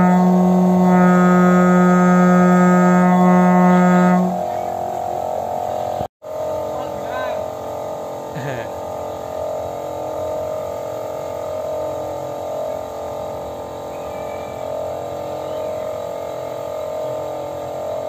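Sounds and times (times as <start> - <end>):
high even whine: 0.0 - 18.0
mechanical hum: 0.0 - 18.0.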